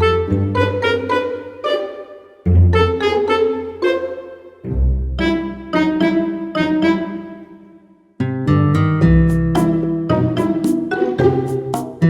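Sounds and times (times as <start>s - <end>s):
light instrumental music: 0.0s - 7.5s, 8.4s - 12.0s.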